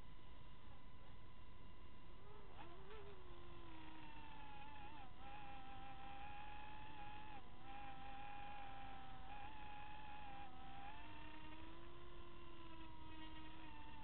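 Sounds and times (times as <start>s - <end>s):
small aircraft electric motor whine: 0.0s - 14.0s.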